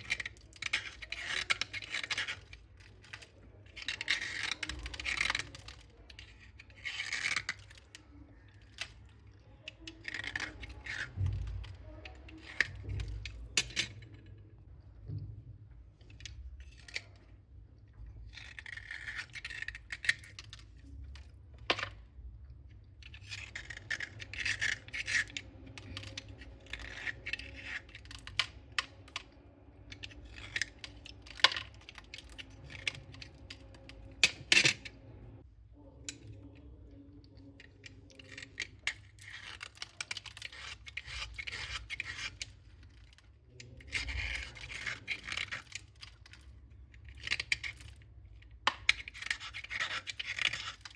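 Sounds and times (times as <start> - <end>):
slate pencils crunching: 0.0 - 14.1, 18.4 - 22.0, 23.0 - 35.0, 37.6 - 50.9.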